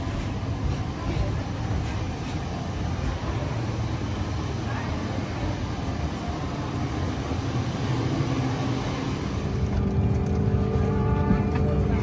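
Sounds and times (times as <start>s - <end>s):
airliner cabin ventilation rushing: 0.0s - 10.5s.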